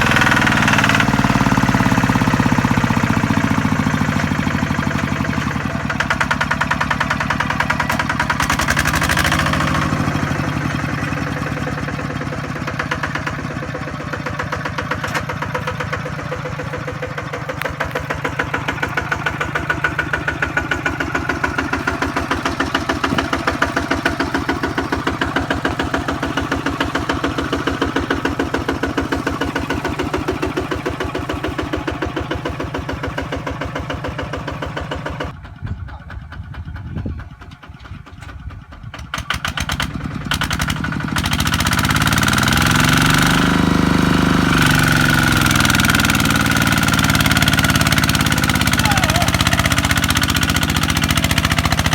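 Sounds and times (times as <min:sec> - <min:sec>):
diesel engine thumping: 0:00.0 - 0:51.9.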